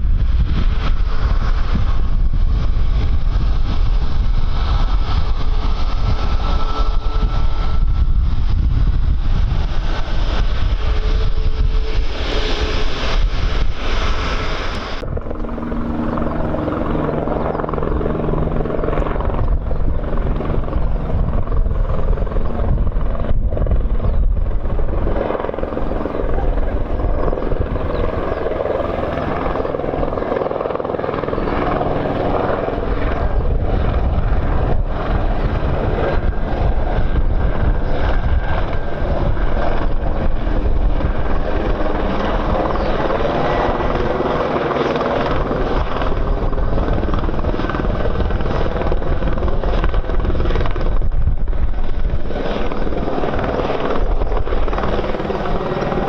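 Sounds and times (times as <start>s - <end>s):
aircraft engines: 0.0s - 56.0s
wind buffeting microphone: 0.0s - 56.0s.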